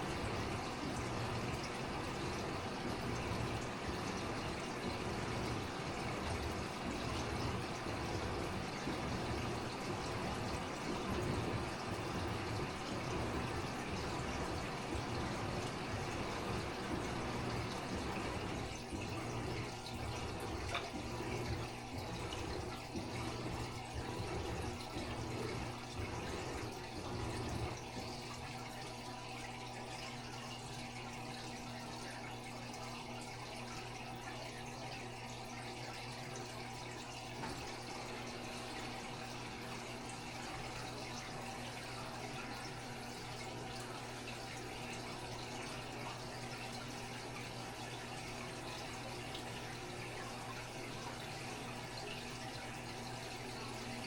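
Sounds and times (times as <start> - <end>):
aquarium water trickling: 0.0 - 54.0
filter hum: 0.0 - 54.0.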